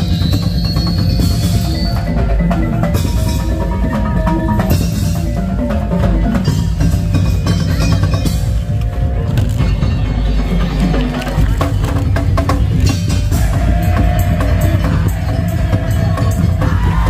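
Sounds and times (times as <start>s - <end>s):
percussion ensemble playing: 0.0s - 17.0s.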